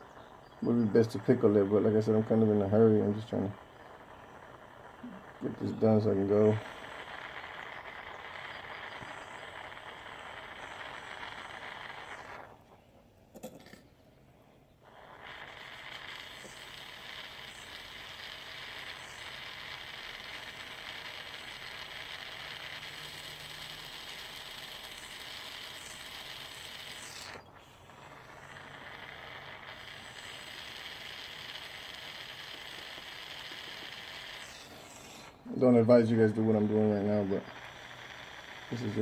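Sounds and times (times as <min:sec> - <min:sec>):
soldering torch flame hissing: 0:00.0 - 0:12.7, 0:14.8 - 0:39.0.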